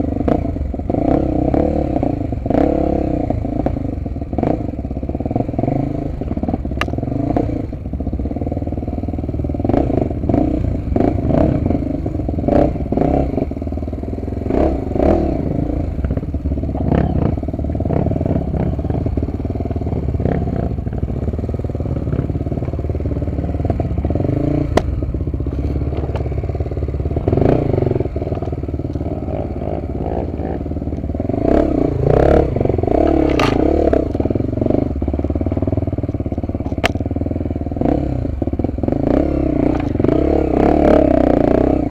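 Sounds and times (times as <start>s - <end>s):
motorcycle engine running: 0.0s - 41.9s
motorcycle knocks and rattles: 2.5s - 41.9s.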